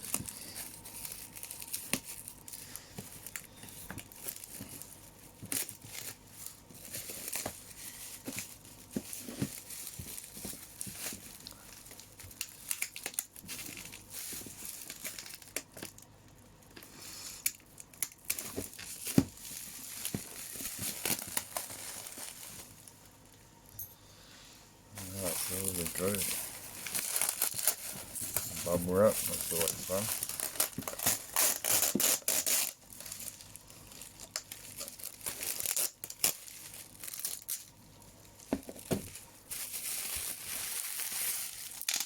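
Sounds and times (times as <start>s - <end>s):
packaging crinkling and tearing: 0.0s - 16.1s, 16.7s - 23.0s, 25.0s - 42.0s.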